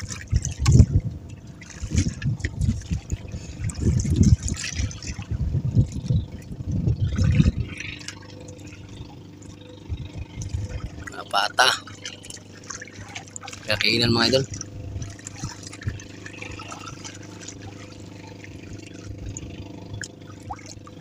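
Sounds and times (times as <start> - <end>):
wind buffeting microphone: 0.0 - 11.6, 13.0 - 21.0
water lapping against boat: 0.0 - 21.0.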